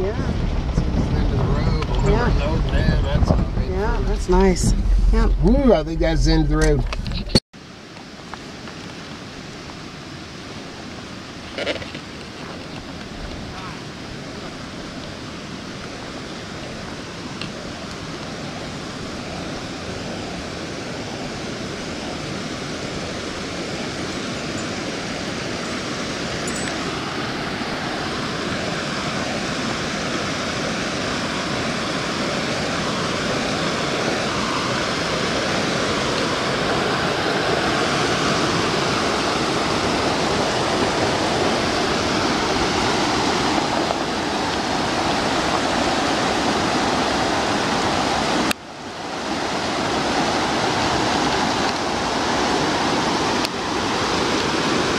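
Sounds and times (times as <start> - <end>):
creek rushing over rocks: 7.6 - 54.9.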